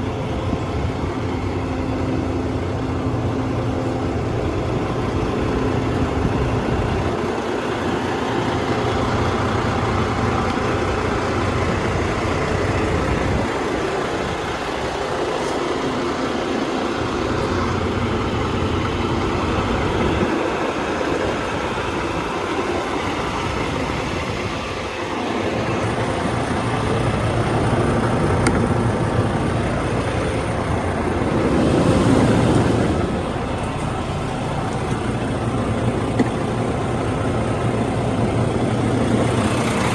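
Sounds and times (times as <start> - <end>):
diesel truck engine idling: 0.0 - 39.9
vehicle noise: 0.0 - 39.9.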